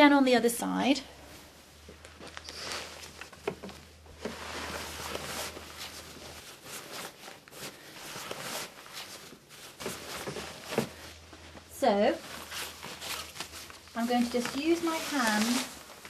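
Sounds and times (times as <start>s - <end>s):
fabric sling rustling: 1.2s - 16.0s.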